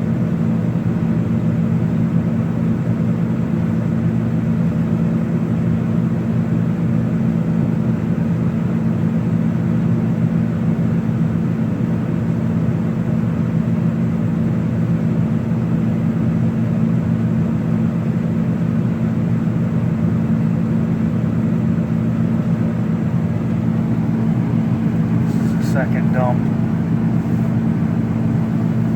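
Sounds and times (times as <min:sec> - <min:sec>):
combine harvester engine drone: 0:00.0 - 0:28.9.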